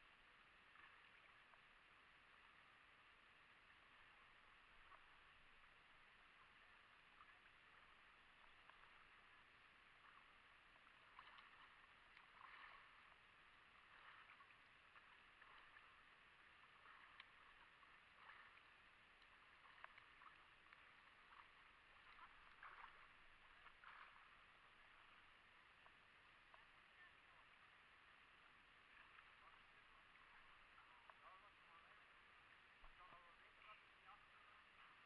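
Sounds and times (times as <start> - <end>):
small water splashes: 0.0 - 35.0
water sloshing and lapping: 0.0 - 35.0.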